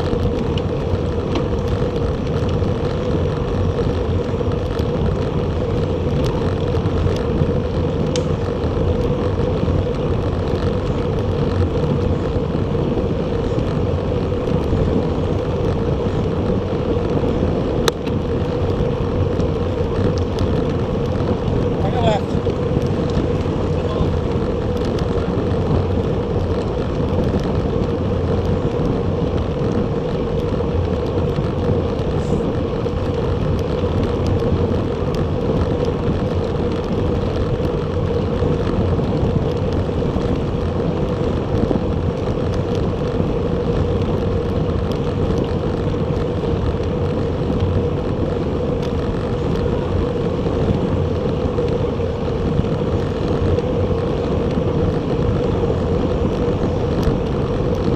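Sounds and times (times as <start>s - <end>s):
hum of moving bicycle: 0.0s - 57.9s
wind rushing over microphone: 0.0s - 57.9s.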